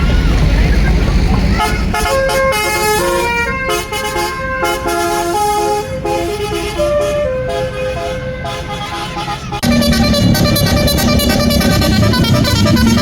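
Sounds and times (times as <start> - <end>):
bus horn playing a tune: 1.5 - 13.0.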